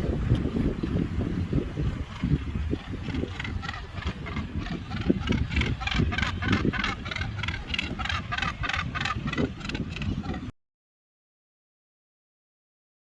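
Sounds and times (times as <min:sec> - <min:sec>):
wind rumbling on microphone: 0:00.0 - 0:10.5.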